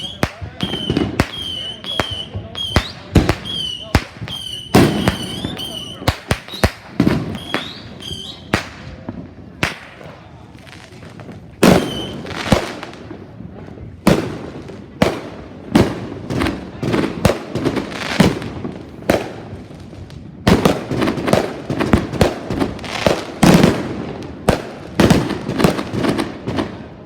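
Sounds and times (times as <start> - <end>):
fireworks bangs with echo: 0.0 - 27.0.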